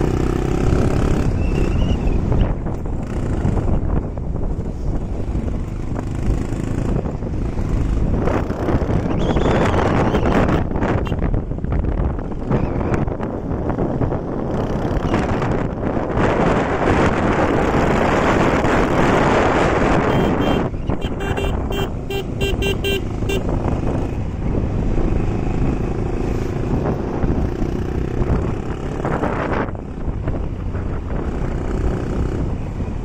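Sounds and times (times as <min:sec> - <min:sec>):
motorcycle engine drone: 0:00.0 - 0:33.0
wind buffeting microphone: 0:00.0 - 0:33.0.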